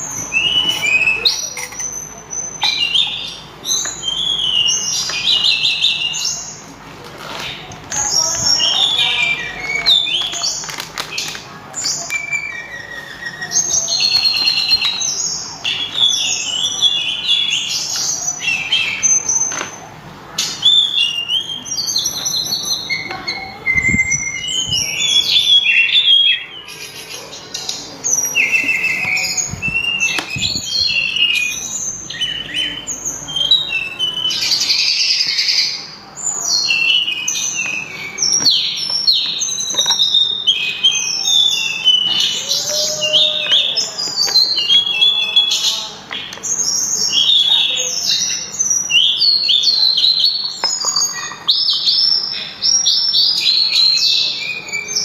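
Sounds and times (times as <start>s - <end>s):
songbird whistling phrases: 0.1s - 6.6s, 8.1s - 10.6s, 11.2s - 19.6s, 20.4s - 35.8s, 36.6s - 45.7s, 46.6s - 55.0s.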